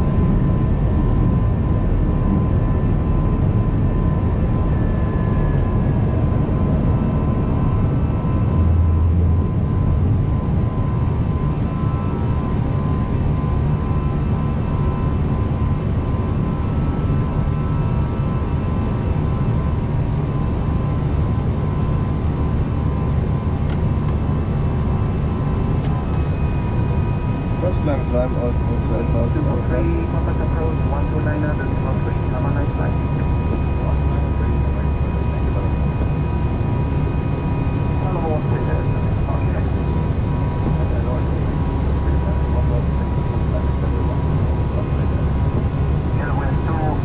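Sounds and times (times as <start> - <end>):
airflow and engine rumble: 0.0 - 47.0.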